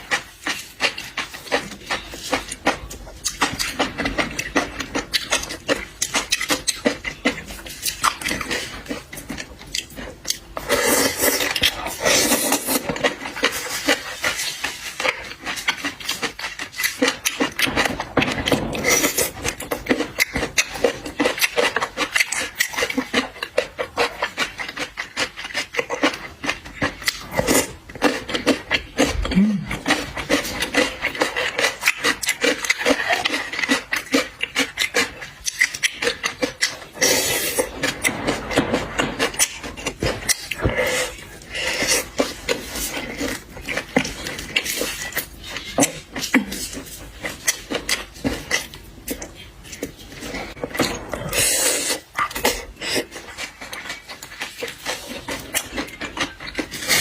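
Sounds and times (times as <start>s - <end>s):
close-up chewing and smacking: 0.0s - 57.0s.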